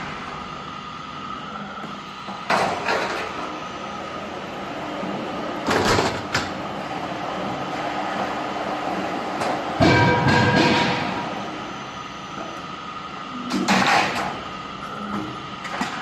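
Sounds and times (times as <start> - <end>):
roll forming machine running: 0.0 - 16.0.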